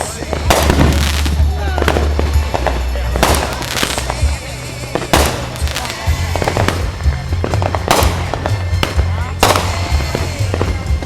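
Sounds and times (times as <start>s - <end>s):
fireworks bursting: 0.0s - 11.0s
music playing: 0.0s - 11.0s.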